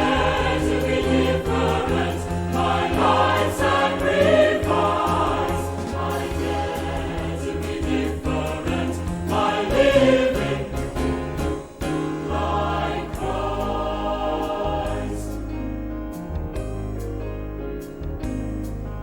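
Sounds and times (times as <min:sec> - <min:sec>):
choir singing: 0:00.0 - 0:15.8
instrumental accompaniment: 0:00.0 - 0:19.0.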